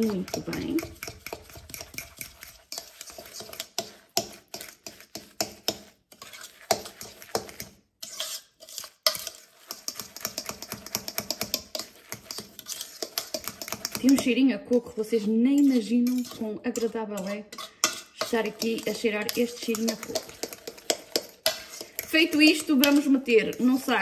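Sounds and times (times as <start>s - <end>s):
fork scraping mixing bowl: 0.0s - 24.0s.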